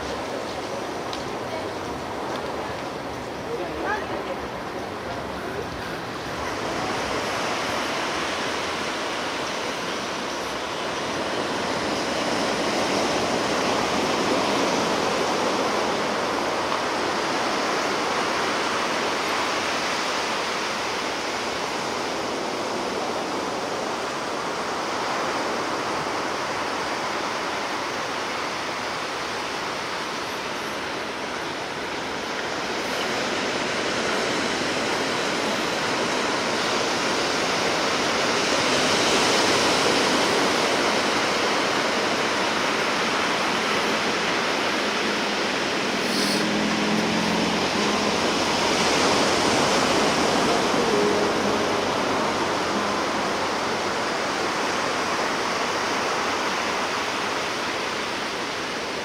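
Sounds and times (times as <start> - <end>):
ocean waves on shore: 0.0 - 59.0.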